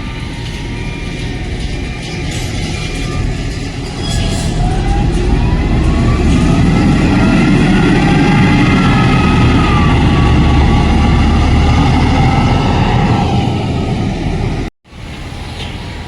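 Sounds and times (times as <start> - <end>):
faint rising whine: 0.0 - 14.7
heavy machinery engine rumble: 0.0 - 16.0.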